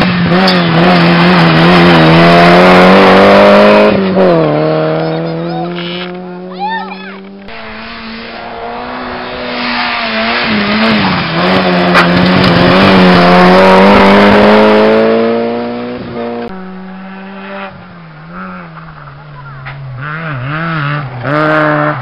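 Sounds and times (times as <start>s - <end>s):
car engine revving hard: 0.0s - 6.5s, 7.2s - 22.0s.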